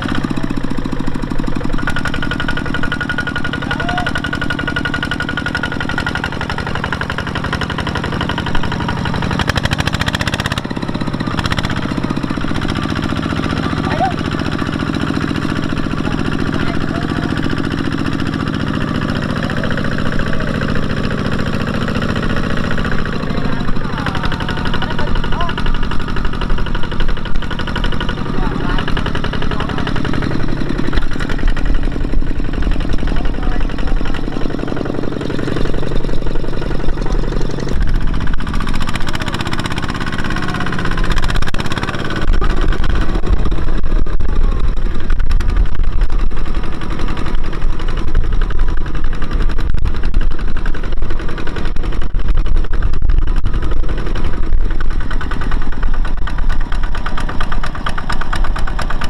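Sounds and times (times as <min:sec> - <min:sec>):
diesel tractor engine chugging: 0:00.0 - 0:59.0.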